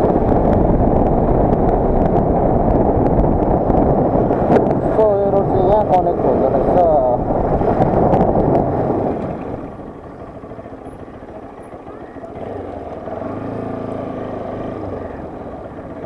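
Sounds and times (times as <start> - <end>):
motorcycle engine running: 0.0 - 16.0
rush of noise: 0.0 - 16.0.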